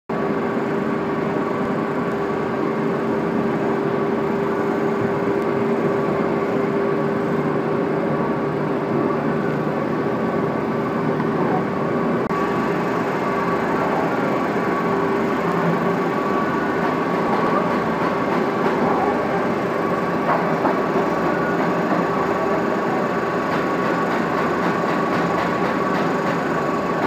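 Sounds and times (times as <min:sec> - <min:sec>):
machines running with hum and whine: 0:00.1 - 0:27.0.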